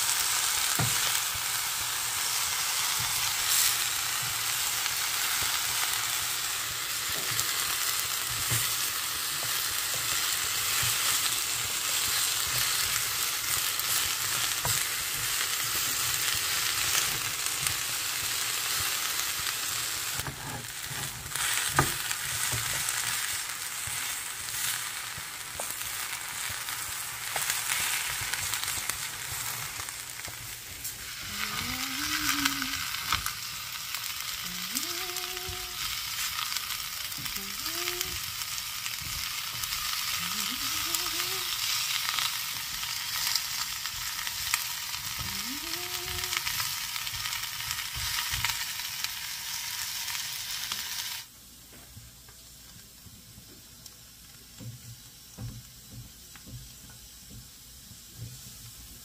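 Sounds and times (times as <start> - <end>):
vegetables sizzling in a frying pan: 0.0 - 59.0.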